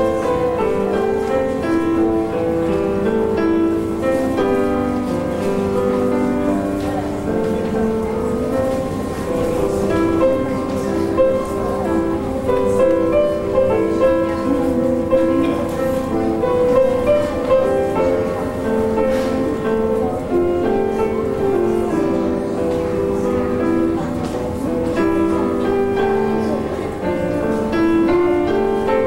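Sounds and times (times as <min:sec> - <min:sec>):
grand piano melody: 0:00.0 - 0:29.0.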